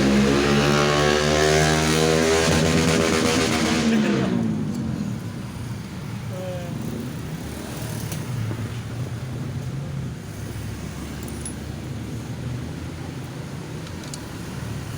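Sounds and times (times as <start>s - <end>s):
low engine rumble: 2.5s - 14.9s.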